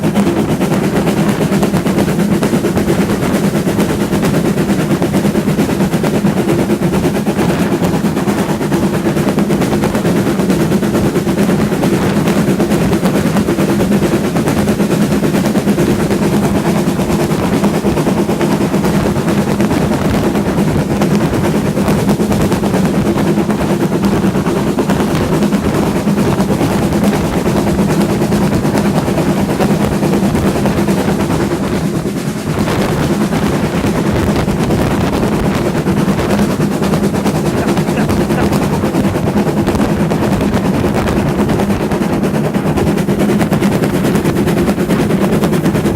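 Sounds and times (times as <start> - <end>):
steam train rattling and rumbling: 0.0 - 45.9.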